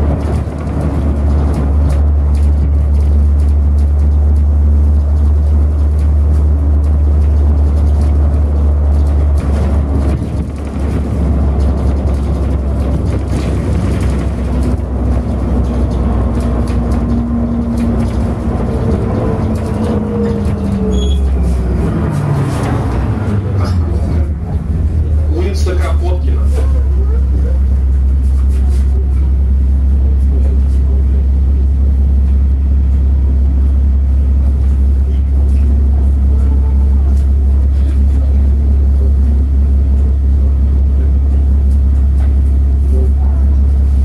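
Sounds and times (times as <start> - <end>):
bus engine drone: 0.0 - 44.0
road noise: 0.0 - 44.0.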